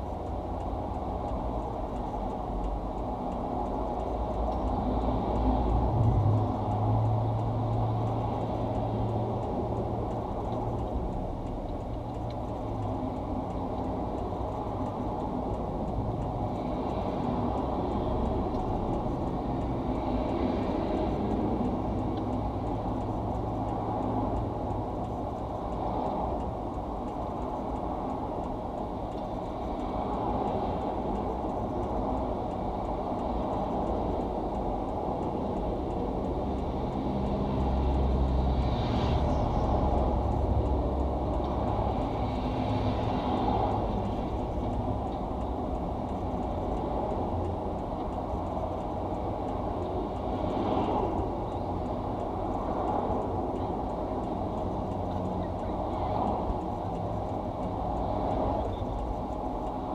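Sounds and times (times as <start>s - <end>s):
highway traffic rumble: 0.0s - 59.9s.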